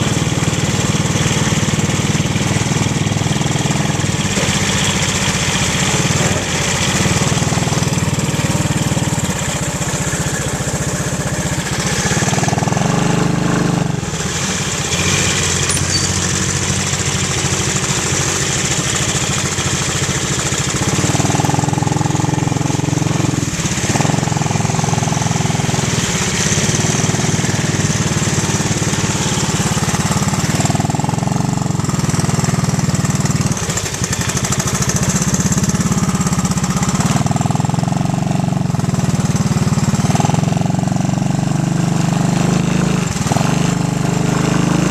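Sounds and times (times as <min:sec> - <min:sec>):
small atv engine running: 0:00.0 - 0:44.9.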